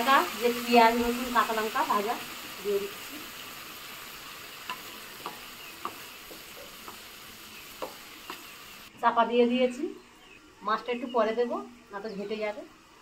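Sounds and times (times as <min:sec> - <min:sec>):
curry sizzling in oil: 0:00.0 - 0:13.0.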